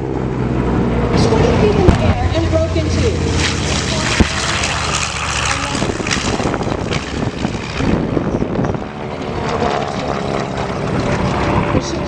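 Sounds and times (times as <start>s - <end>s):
propeller aircraft flying past: 0.0s - 12.0s
wind on microphone: 0.8s - 12.0s.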